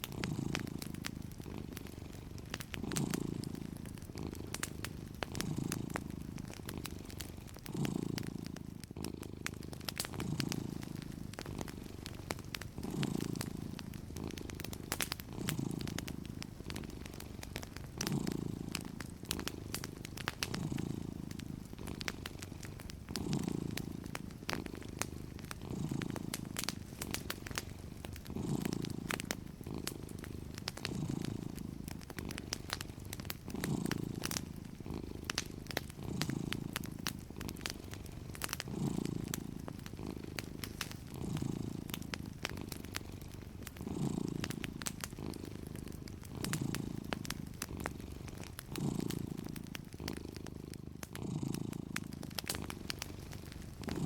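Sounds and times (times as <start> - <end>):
cat purring: 0.0 - 54.0
wood fire crackling: 0.0 - 54.0.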